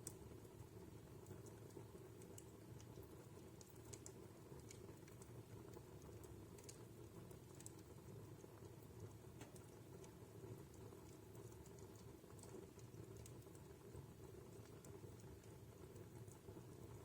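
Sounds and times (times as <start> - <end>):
faint wood fire crackling: 0.0 - 17.0.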